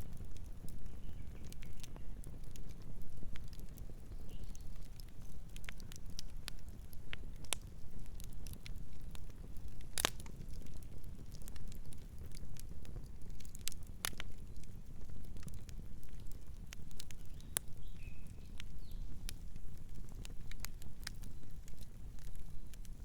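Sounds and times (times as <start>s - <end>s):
low rumble of fire: 0.0s - 23.0s
wood crackling and popping: 0.0s - 23.0s.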